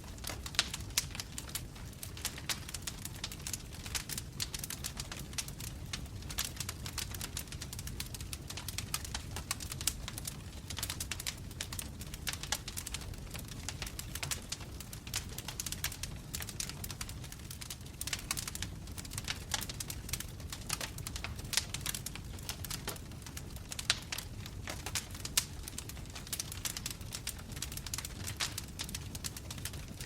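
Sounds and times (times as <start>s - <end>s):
burning logs crackling and popping: 0.0s - 30.0s
low rumble of flame: 0.0s - 30.0s.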